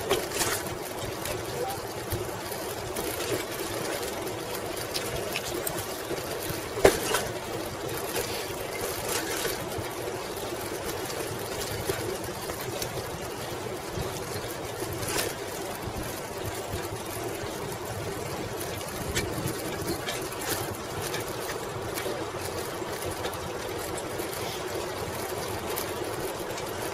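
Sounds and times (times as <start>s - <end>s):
bicycle rattle: 0.0s - 26.9s
bicycle tyres rumbling on asphalt: 0.0s - 26.9s.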